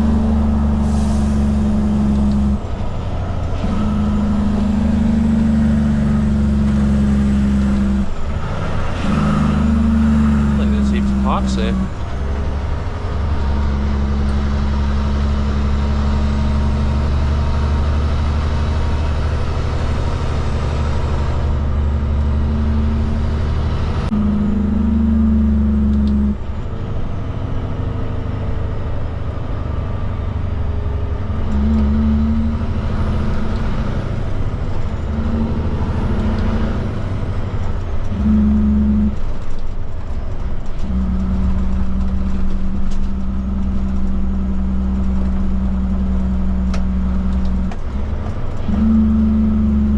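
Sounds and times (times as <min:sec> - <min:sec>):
diesel truck engine drone: 0:00.0 - 0:49.9.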